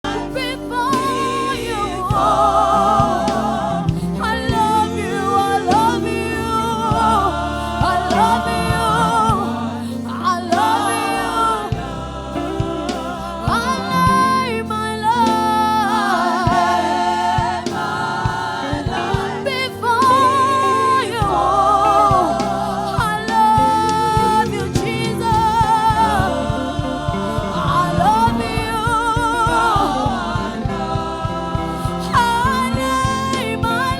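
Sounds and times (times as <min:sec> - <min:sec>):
bass: 0:00.0 - 0:33.9
choir singing gospel: 0:00.0 - 0:33.9
keyboard: 0:00.0 - 0:33.9.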